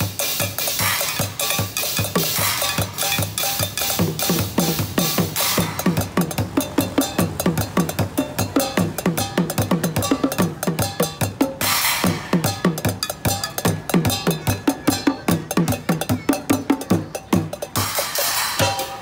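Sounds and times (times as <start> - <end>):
drumming on junk drum kit: 0.0 - 19.0.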